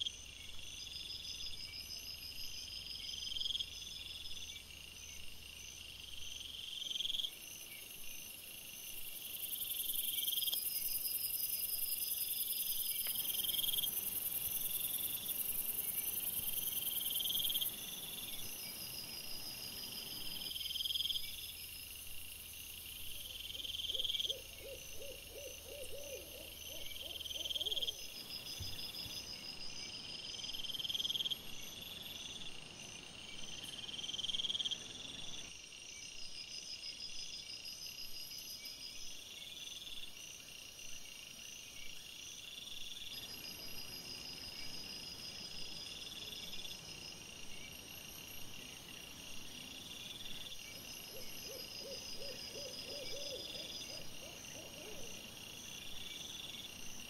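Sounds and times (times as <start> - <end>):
night insects chirping: 0.0 - 57.0.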